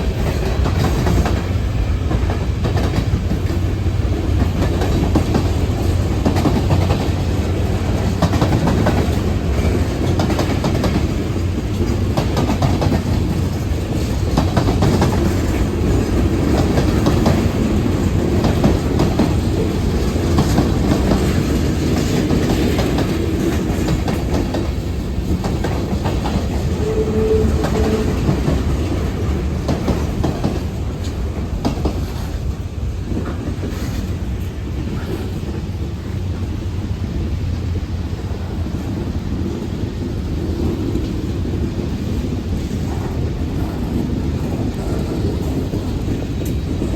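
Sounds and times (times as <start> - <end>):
wheels clicking over rail joints: 0.0 - 36.6, 39.0 - 46.9
freight train rumbling past: 0.0 - 46.9.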